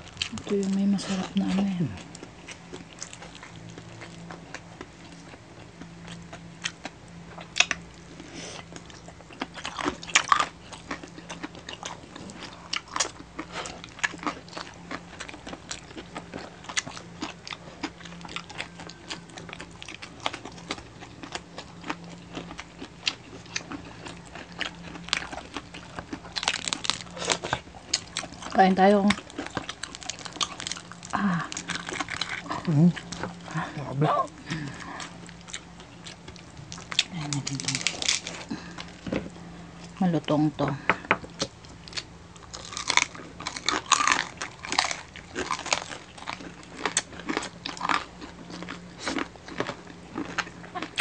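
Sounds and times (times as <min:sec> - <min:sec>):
crispy skin crunching: 0:00.0 - 0:40.0, 0:41.2 - 0:51.0.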